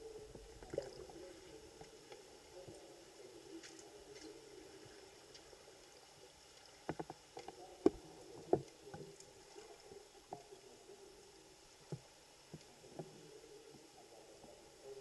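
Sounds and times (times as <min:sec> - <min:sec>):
underwater low hum: 0:00.0 - 0:15.0.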